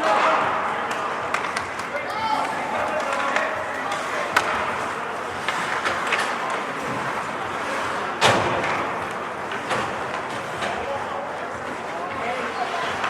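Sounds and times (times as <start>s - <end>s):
arena noise: 0.0s - 13.0s
hockey sticks and puck clacking: 0.0s - 13.0s
puck banging against rink boards: 0.2s - 13.0s.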